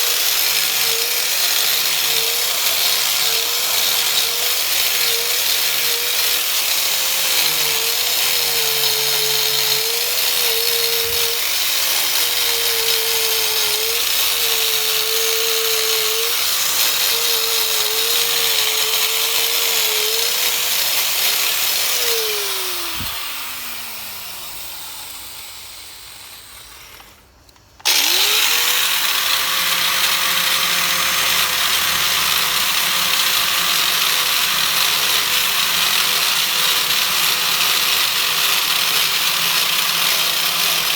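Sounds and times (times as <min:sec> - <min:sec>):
angle grinder polishing metal: 0:00.0 - 0:27.2, 0:27.8 - 0:40.9.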